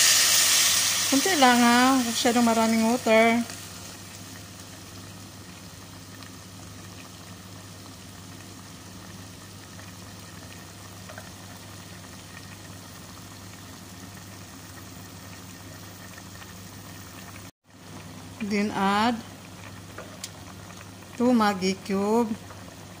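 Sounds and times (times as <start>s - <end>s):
water bubbling in a pot: 0.7s - 23.0s.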